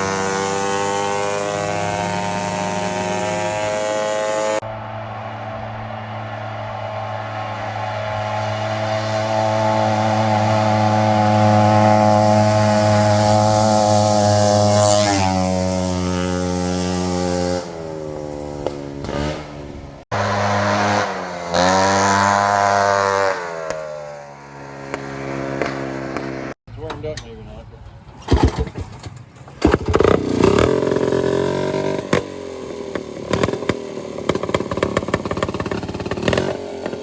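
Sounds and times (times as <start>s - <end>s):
lawn mower engine revving: 0.0s - 4.6s, 7.6s - 27.2s, 27.9s - 37.0s.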